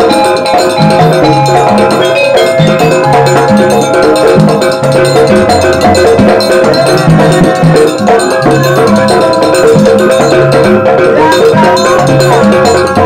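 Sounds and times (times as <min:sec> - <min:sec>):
bamboo flute melody: 0:00.0 - 0:13.0
hand drums beating: 0:00.0 - 0:13.0.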